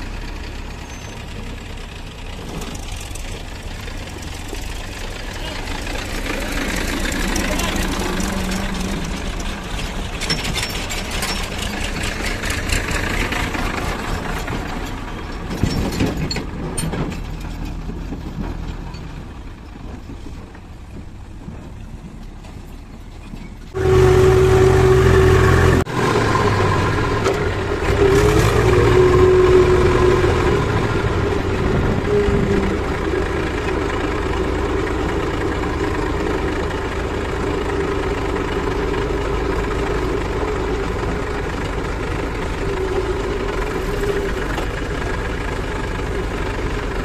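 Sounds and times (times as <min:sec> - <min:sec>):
backhoe loader diesel engine: 0:00.0 - 0:47.0
loud tractor diesel engine hum: 0:00.0 - 0:47.0
tractor idling: 0:00.0 - 0:47.0.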